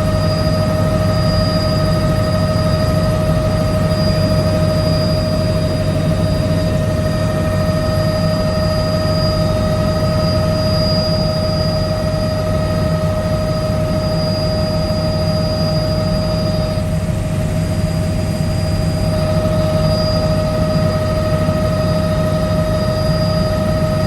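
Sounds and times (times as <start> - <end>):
helicopter rotor and engine drone: 0.0 - 24.0
high whine: 0.0 - 24.0.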